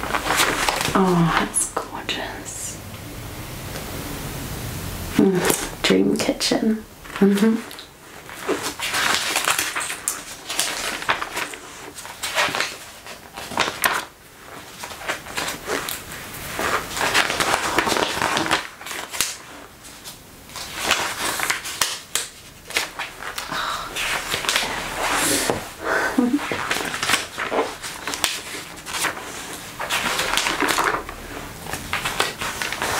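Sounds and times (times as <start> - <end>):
magazine pages rustling: 0.0 - 1.9, 7.0 - 32.9.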